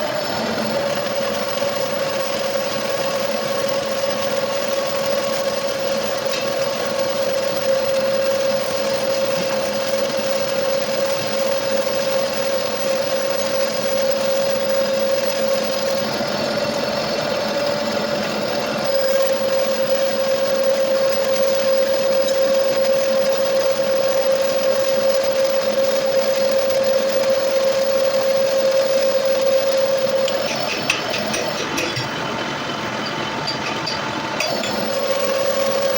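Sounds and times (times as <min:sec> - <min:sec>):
metal lathe whine: 0:00.0 - 0:35.9.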